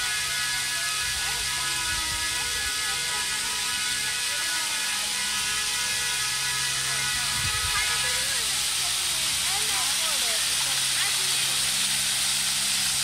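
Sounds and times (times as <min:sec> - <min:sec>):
fountain water splashing: 0:00.0 - 0:13.0
mechanical hum: 0:00.0 - 0:13.0.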